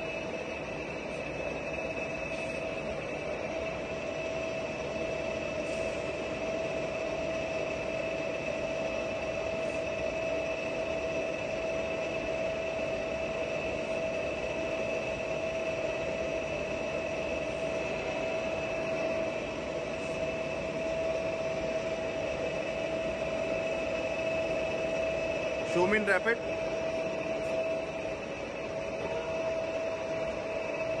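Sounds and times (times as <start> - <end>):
lathe running: 0.0 - 31.0.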